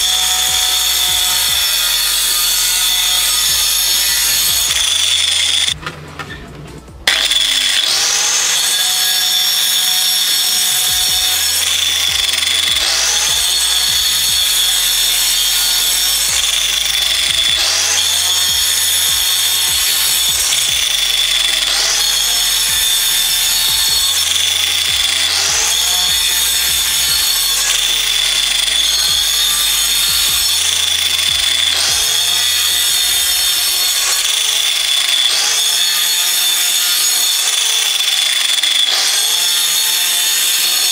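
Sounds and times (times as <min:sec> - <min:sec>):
angle grinder cutting ice: 0:00.0 - 0:06.4, 0:07.0 - 0:40.9
electronic music with pulsing beat: 0:00.0 - 0:09.1, 0:10.1 - 0:40.0.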